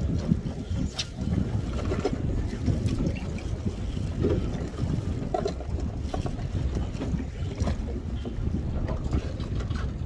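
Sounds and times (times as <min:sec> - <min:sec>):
water lapping against boat hull: 0:00.0 - 0:10.0
wind buffeting microphone: 0:00.0 - 0:10.0.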